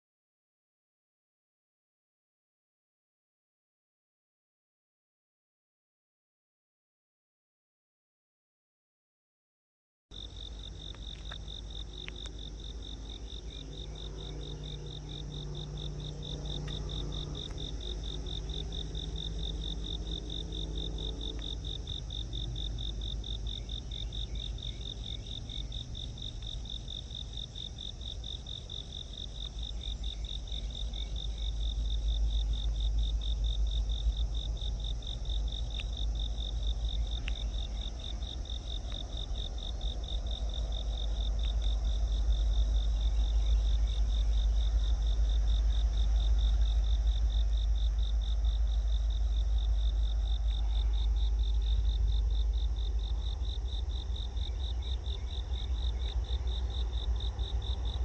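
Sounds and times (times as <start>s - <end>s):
crickets chirping: 10.1s - 58.0s
faint low hum: 10.1s - 58.0s
low rumble: 10.2s - 58.0s.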